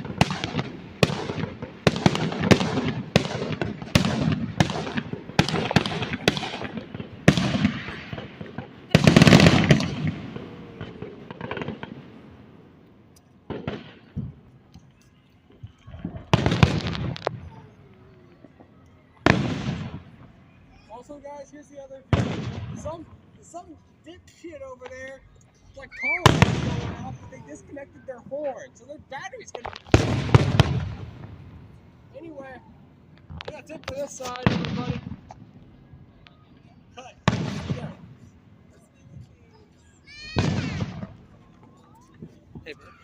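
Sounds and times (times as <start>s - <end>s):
fireworks bangs: 0.0s - 43.0s.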